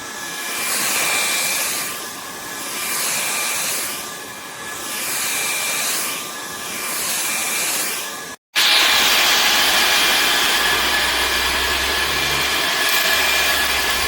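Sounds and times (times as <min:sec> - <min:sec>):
stick vacuum running: 0:00.0 - 0:14.0.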